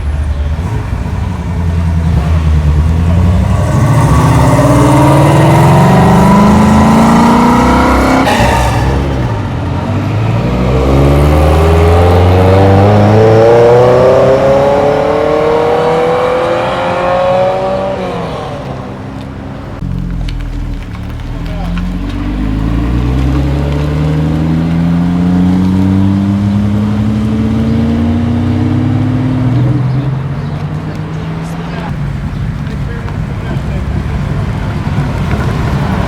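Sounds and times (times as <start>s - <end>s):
car engine accelerating hard: 0.0s - 36.0s.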